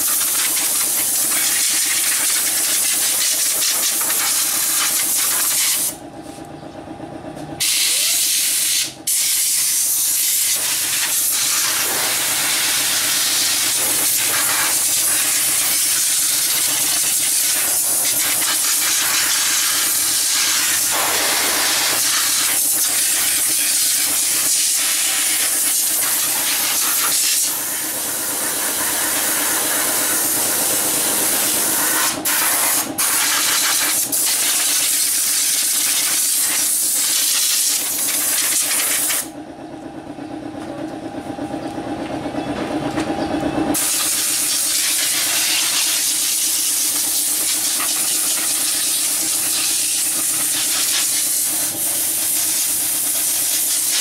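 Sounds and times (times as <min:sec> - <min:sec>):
compressed air hissing: 0:00.0 - 0:06.0, 0:07.6 - 0:35.0, 0:43.8 - 0:54.0.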